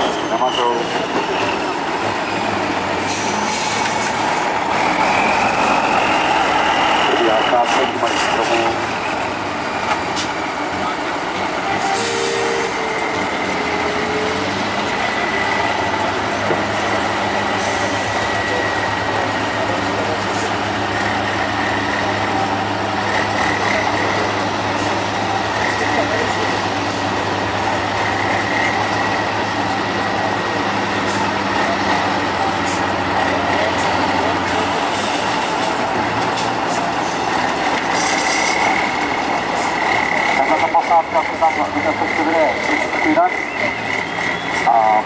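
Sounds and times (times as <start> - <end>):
truck diesel engine under load: 0.0 - 45.0.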